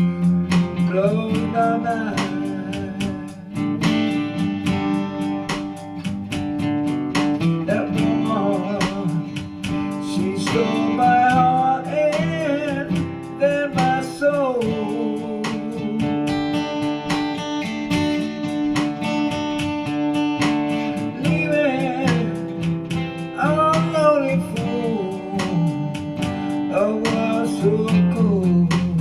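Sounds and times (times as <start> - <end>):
strummed acoustic guitar: 0.0 - 29.0.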